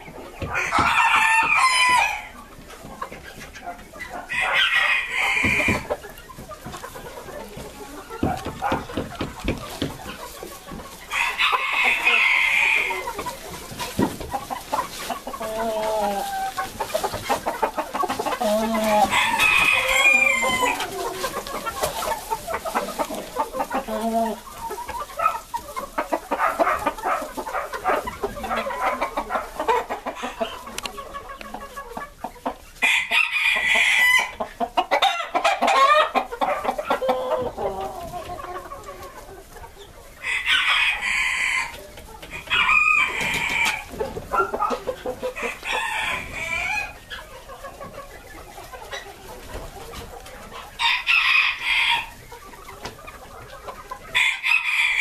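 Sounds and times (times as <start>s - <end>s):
roosters crowing: 0.0s - 3.0s, 4.1s - 31.5s, 32.4s - 39.0s, 40.0s - 47.3s, 50.4s - 53.0s, 53.6s - 55.0s
chickens clucking: 0.0s - 55.0s.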